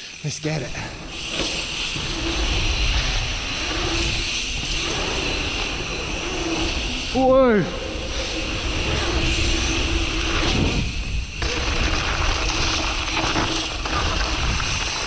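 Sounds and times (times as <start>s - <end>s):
bike tyres rolling on gravel: 0.3s - 15.0s
wind buffeting microphone: 1.9s - 15.0s.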